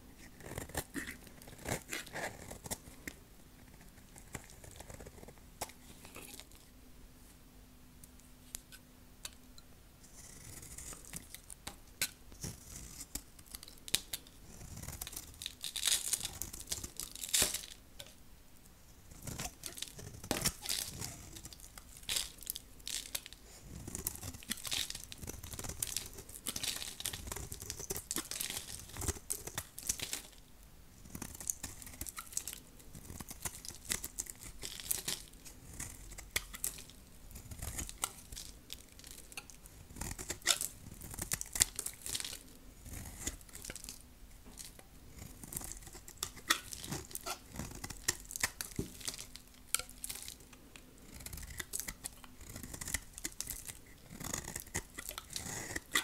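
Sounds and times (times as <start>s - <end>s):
blade crunching through dry soap: 0.3s - 3.1s, 10.2s - 17.8s, 19.1s - 30.4s, 31.0s - 56.0s.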